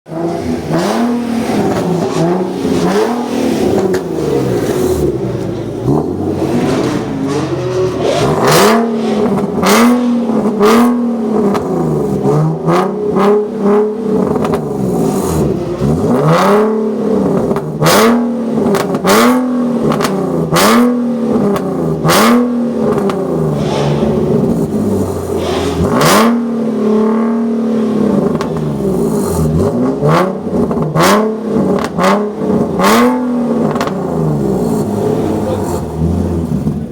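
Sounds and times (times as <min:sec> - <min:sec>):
car engine revving in blips: 0:00.0 - 0:36.9.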